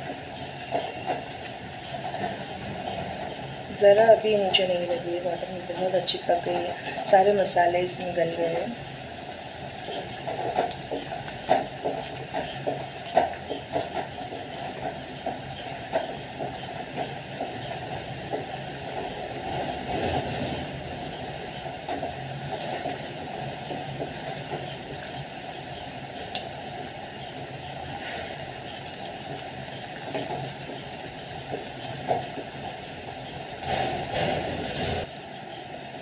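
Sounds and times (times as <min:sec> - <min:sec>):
gas burner hissing: 0:00.0 - 0:36.0.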